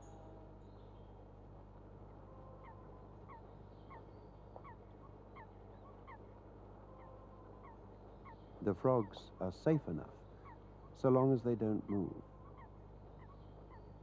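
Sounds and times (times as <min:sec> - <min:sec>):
low steady hum: 0:00.0 - 0:14.0
bird chirping faintly: 0:02.1 - 0:14.0.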